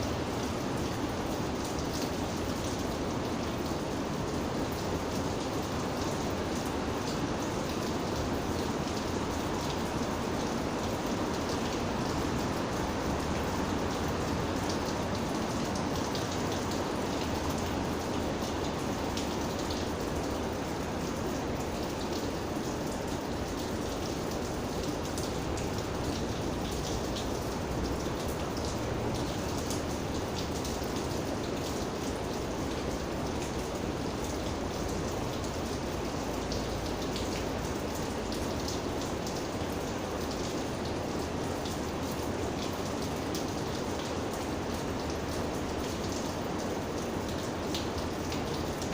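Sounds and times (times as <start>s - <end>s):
steady rain with raindrop ticks: 0.0s - 48.9s.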